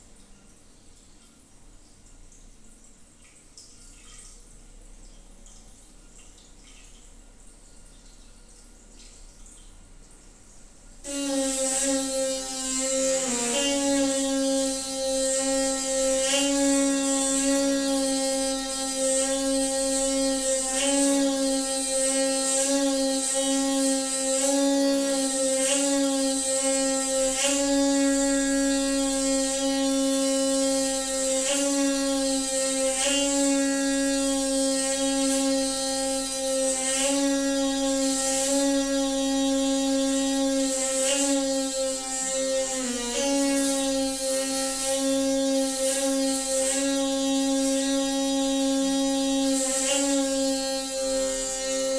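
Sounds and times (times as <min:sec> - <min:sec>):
water pipe humming: 0:00.0 - 0:51.9.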